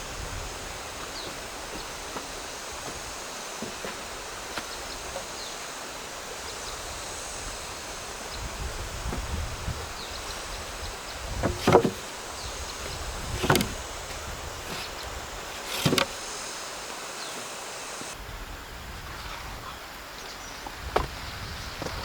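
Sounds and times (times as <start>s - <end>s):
steady hiss: 0.0s - 18.5s.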